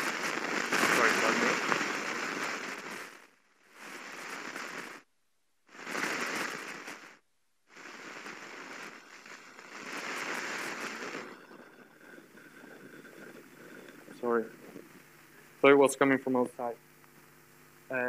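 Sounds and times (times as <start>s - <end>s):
crackling static hiss: 0.0s - 18.0s.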